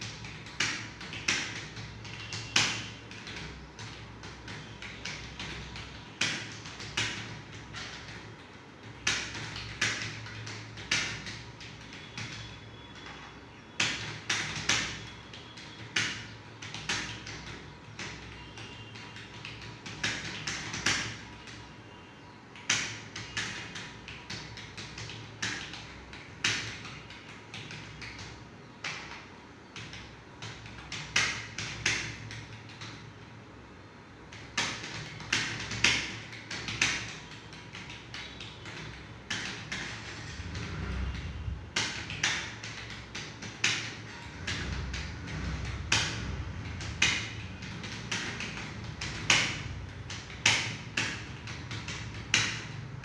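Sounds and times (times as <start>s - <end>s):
computer keyboard typing: 0.0s - 53.0s.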